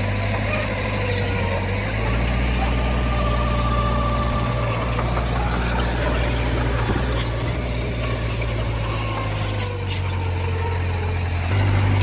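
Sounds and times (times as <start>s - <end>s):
heavy machinery diesel engine running: 0.0s - 12.0s.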